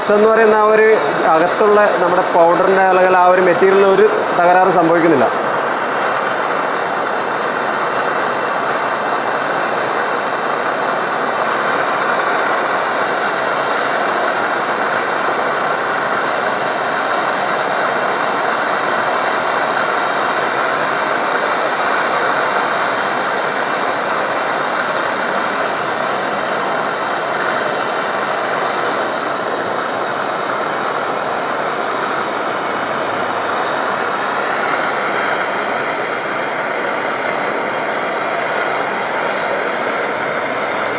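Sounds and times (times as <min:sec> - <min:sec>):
heat gun blowing: 0:00.0 - 0:40.9.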